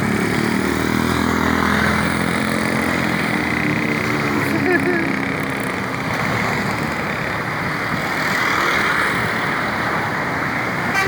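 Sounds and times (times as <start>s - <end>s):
passing vehicles: 0.0s - 11.0s.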